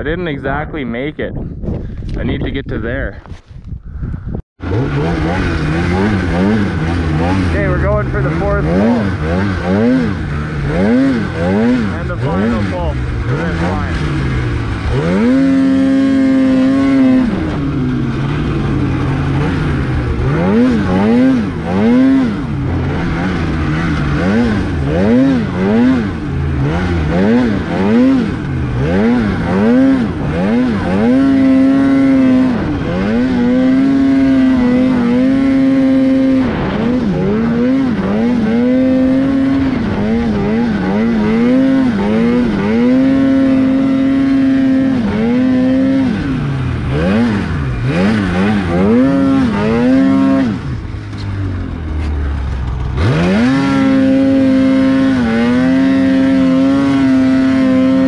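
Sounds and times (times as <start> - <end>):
snowmobile engine revving: 4.6 - 58.0.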